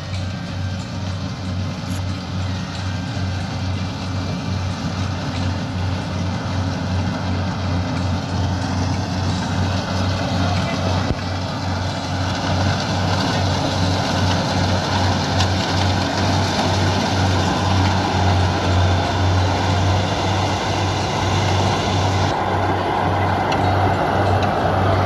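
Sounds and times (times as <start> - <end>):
combine harvester engine humming: 0.0 - 25.0
machinery noise: 0.0 - 25.0.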